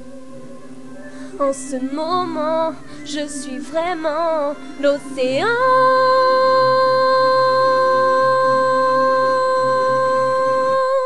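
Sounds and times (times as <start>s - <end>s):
woman singing high note: 1.4s - 11.0s.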